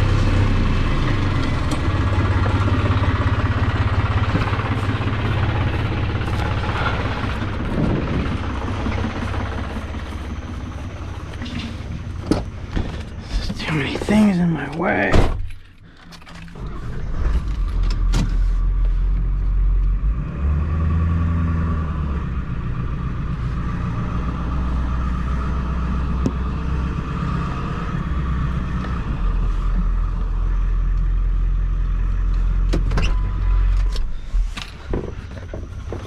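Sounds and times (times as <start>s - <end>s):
tractor engine running under load: 0.0s - 20.1s, 21.0s - 36.0s.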